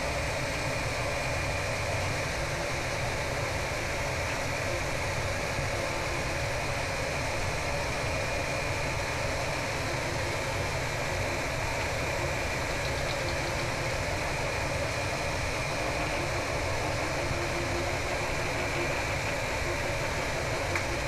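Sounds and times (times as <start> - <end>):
laser engraver humming and whirring: 0.0 - 21.0.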